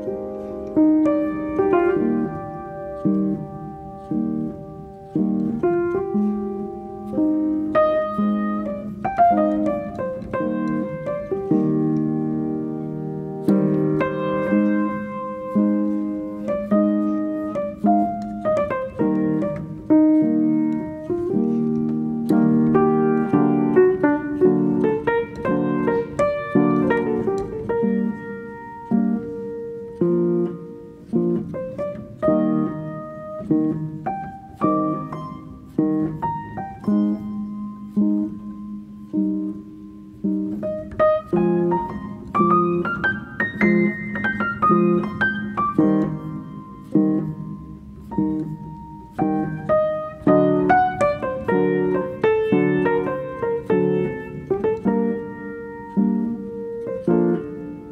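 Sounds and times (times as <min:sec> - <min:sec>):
piano music: 0:00.0 - 0:57.9.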